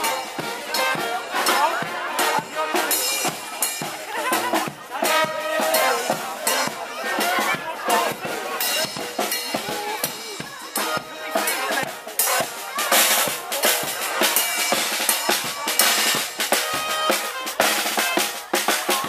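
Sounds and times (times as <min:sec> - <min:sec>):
brass band playing: 0:00.0 - 0:19.0.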